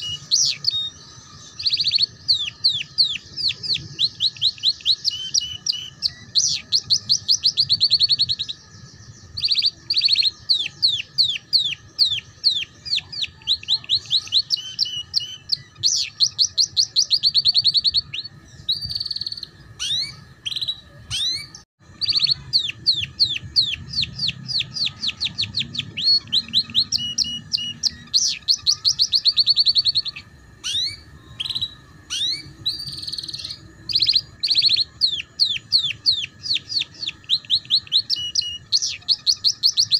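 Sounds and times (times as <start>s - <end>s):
canary singing in fast trills: 0.0s - 39.9s.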